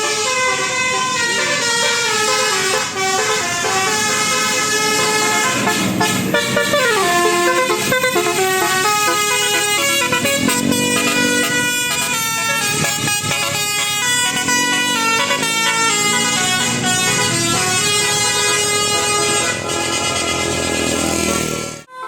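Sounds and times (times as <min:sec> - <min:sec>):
bus horn playing melody: 0:00.0 - 0:22.0.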